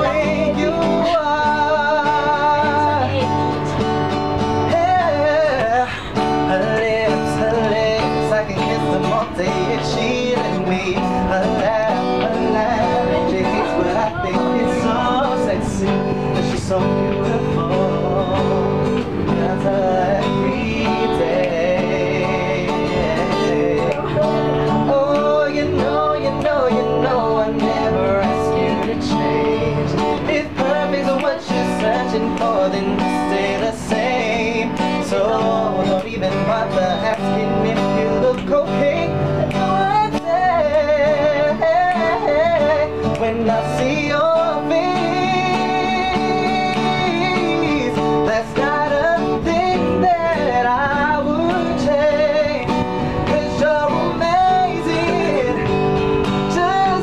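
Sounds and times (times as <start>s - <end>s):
acoustic guitar: 0.0s - 57.0s
man singing pop song: 0.0s - 57.0s.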